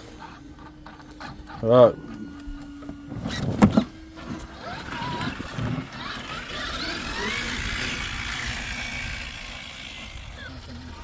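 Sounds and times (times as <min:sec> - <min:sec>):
rc car electric motor whining: 0:00.0 - 0:11.0.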